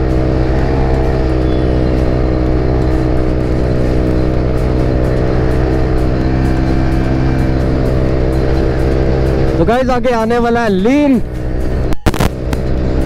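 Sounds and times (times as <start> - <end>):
scooter engine droning: 0.0 - 13.0.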